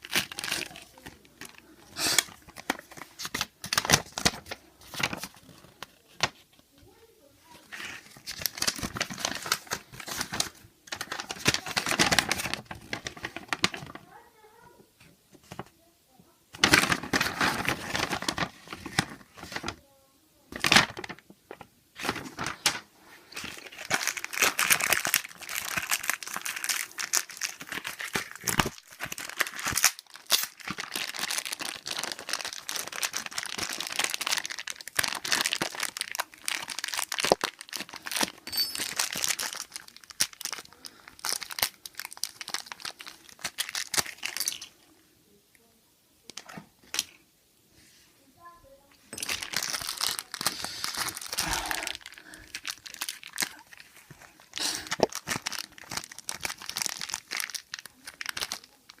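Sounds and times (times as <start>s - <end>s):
packaging crinkling: 0.0s - 6.4s, 7.6s - 14.2s, 16.6s - 19.8s, 20.5s - 44.8s, 49.1s - 59.0s.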